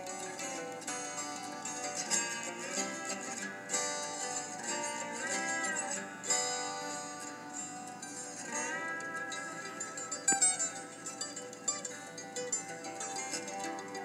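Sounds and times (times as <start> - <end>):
plucked string music: 0.0 - 14.0.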